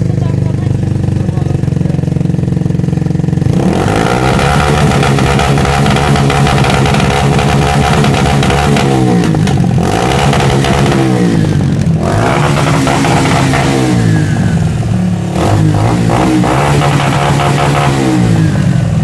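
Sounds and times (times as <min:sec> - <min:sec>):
engine revving through loud exhaust: 0:02.3 - 0:19.0.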